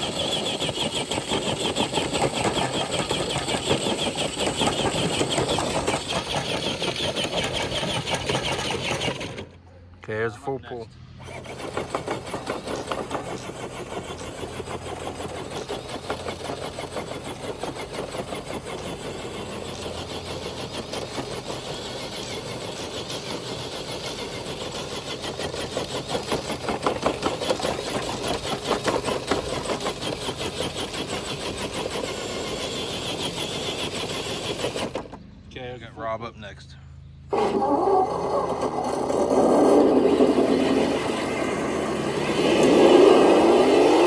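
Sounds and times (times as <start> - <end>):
toy truck electric motor buzzing: 0.0 - 9.6, 11.2 - 35.3, 37.3 - 44.0.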